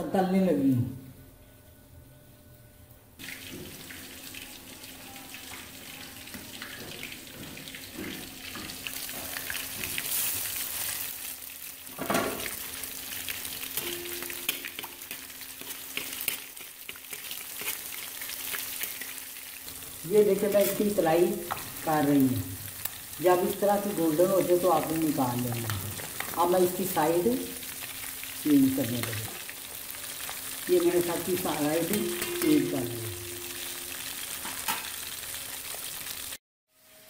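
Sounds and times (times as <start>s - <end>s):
fish frying in hot oil: 3.2s - 37.0s.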